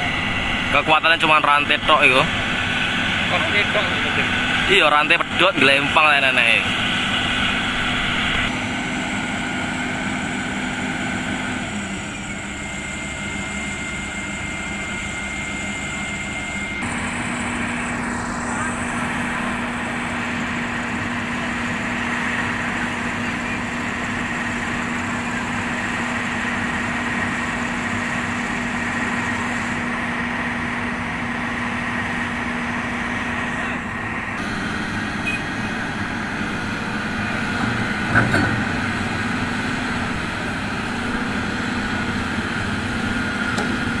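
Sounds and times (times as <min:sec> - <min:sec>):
excavator diesel engines running: 0:00.0 - 0:44.0.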